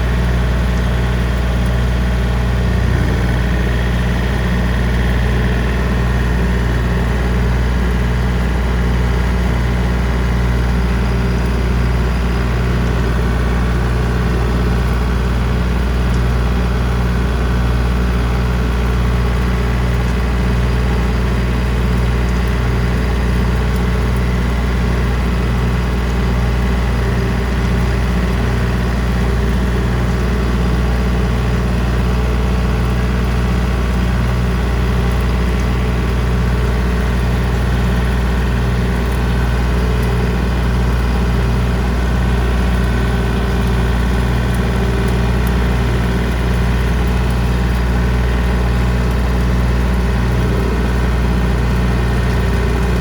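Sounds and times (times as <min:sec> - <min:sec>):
tractor diesel engine droning: 0:00.0 - 0:53.0.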